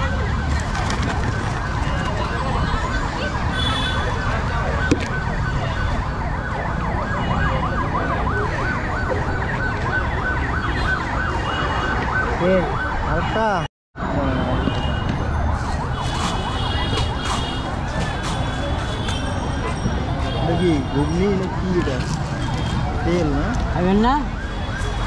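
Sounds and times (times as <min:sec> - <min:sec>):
siren wailing: 0:00.0 - 0:13.7, 0:14.5 - 0:25.0
low street noise: 0:00.0 - 0:25.0.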